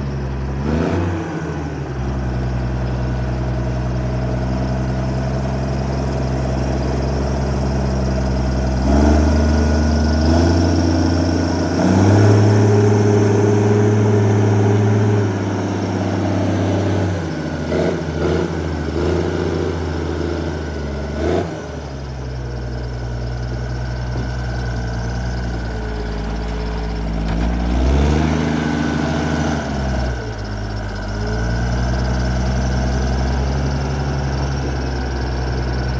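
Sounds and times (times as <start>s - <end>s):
diesel engine idling and revving: 0.0s - 35.9s.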